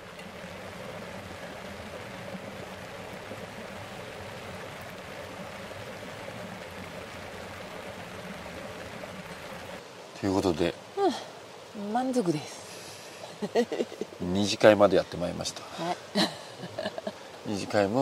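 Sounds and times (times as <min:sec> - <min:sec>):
rain on tent fabric: 0:00.0 - 0:18.0.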